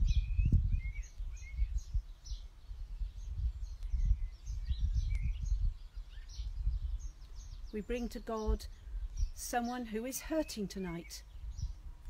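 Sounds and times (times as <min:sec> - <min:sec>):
birds chirping and whistling: 0:00.0 - 0:11.8
wind rumble on microphone: 0:00.0 - 0:12.0.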